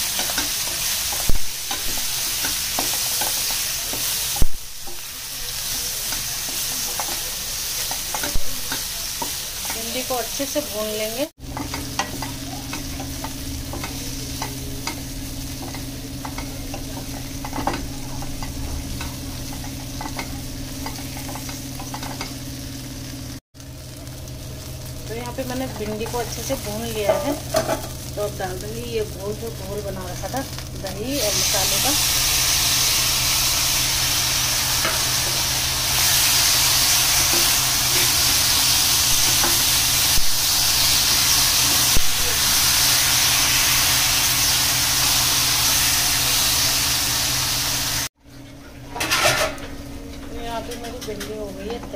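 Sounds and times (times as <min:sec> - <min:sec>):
okra sizzling in oil: 0:00.0 - 0:48.2.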